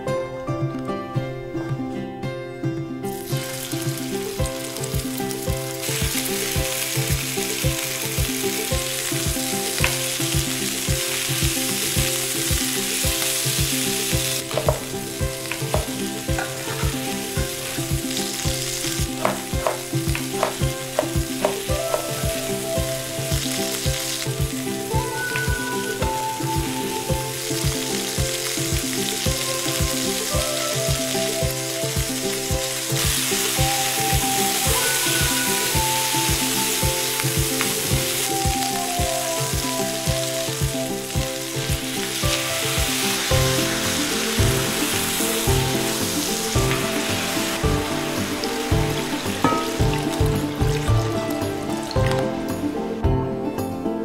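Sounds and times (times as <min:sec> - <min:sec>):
background music with steady beat: 0:00.0 - 0:54.0
meat sizzling in a pan: 0:03.1 - 0:52.8.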